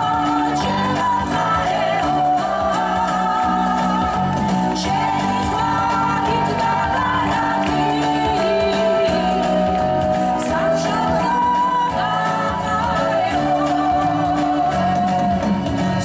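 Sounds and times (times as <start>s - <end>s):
instrumental accompaniment: 0.0s - 16.0s
women's vocal group singing: 0.0s - 16.0s.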